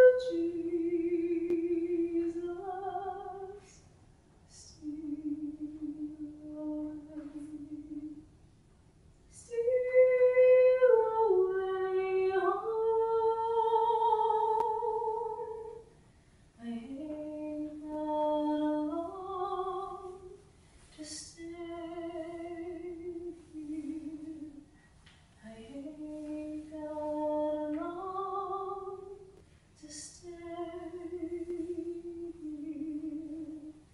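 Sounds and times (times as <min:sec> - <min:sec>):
woman singing unaccompanied: 0:00.0 - 0:03.8, 0:04.5 - 0:08.3, 0:09.3 - 0:15.9, 0:16.6 - 0:24.7, 0:25.4 - 0:33.9.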